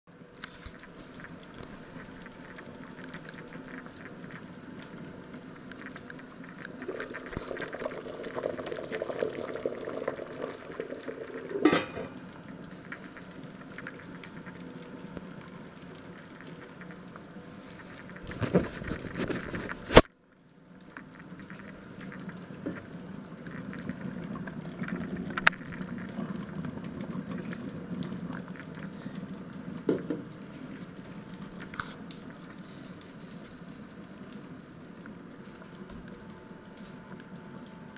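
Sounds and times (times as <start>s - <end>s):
stockpot bubbling: 0.5s - 37.8s.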